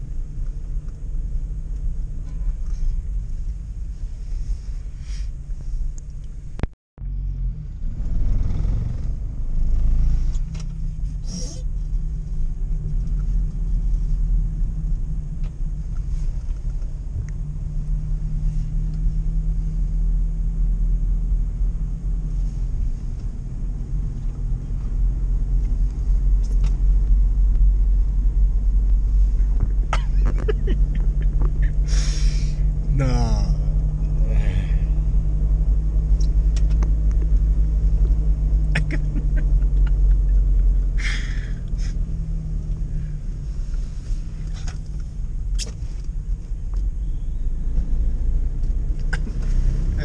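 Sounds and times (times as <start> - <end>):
van engine drone: 0.0 - 50.0.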